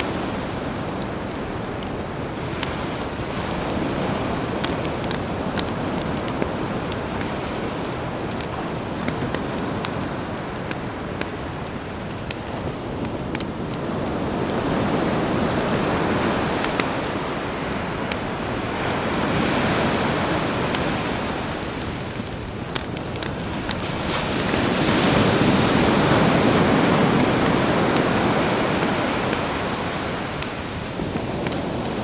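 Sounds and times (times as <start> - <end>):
campfire popping and crackling: 0.0 - 32.0
sea waves washing onto shore: 0.0 - 32.0.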